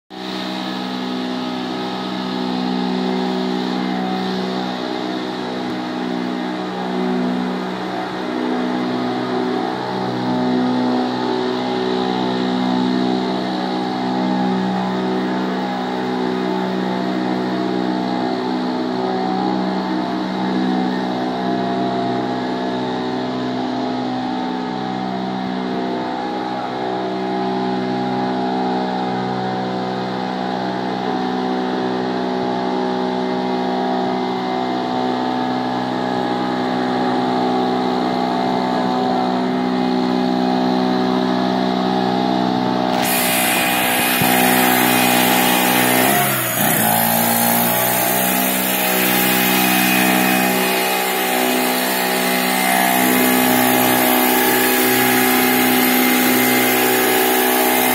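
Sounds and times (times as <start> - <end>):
generator engine running: 0.1 - 57.9.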